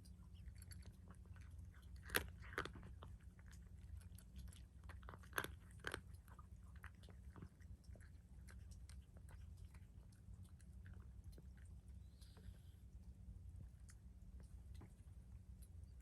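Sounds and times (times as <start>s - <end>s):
cat chewing food: 0.0s - 16.0s.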